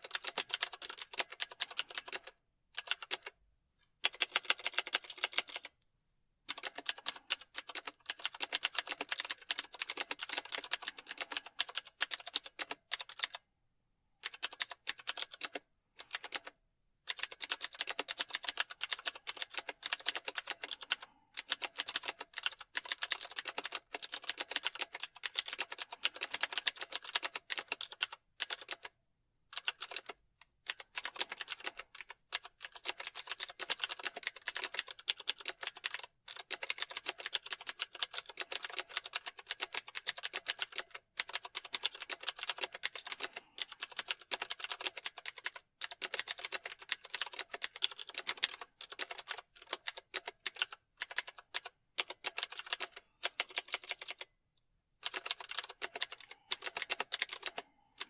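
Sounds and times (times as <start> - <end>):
fast typing on keyboard: 0.0 - 3.4, 4.0 - 5.8, 6.5 - 13.5, 14.2 - 54.3, 55.0 - 58.0.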